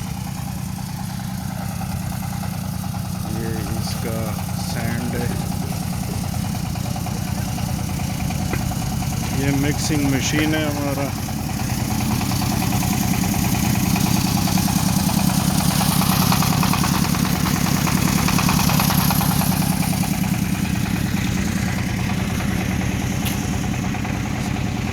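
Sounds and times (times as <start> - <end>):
concrete mixer engine running: 0.0 - 24.9.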